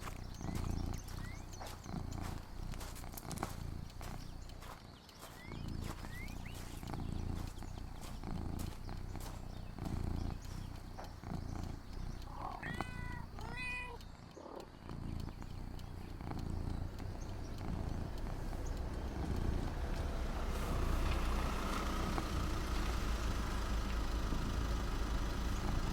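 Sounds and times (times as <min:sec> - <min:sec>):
cat purring: 0:00.0 - 0:25.9.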